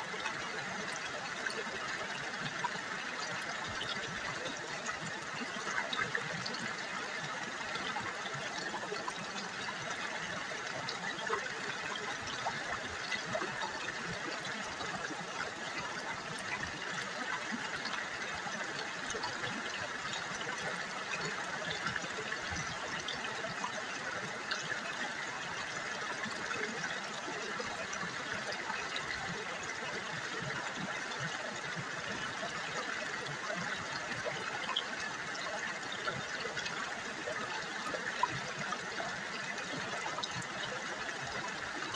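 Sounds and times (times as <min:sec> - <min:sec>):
river water babbling: 0:00.0 - 0:41.9.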